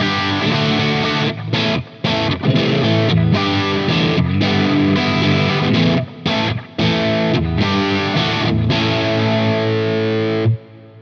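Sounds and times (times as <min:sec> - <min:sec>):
overdriven electric guitar: 0:00.0 - 0:11.0.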